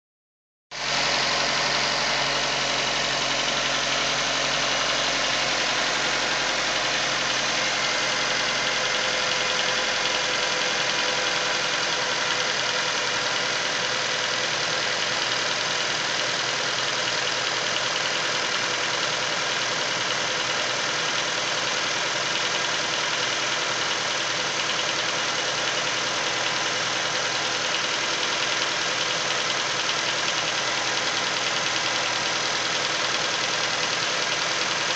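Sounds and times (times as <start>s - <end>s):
car engine running with knock: 0.9s - 34.9s.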